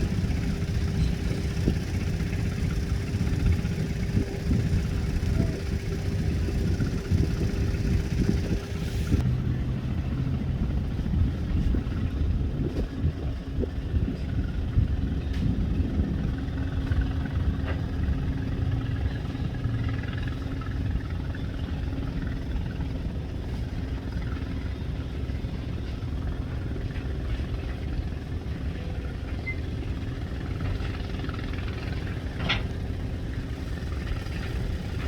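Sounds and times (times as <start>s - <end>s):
boat engines running: 0.0s - 35.0s.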